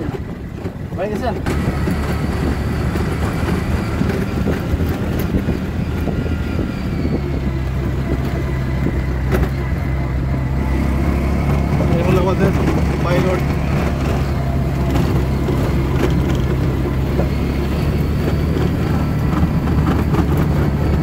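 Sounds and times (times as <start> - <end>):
body knocks and rattles: 0.0 - 10.4, 11.2 - 21.0
small engine running: 0.0 - 21.0.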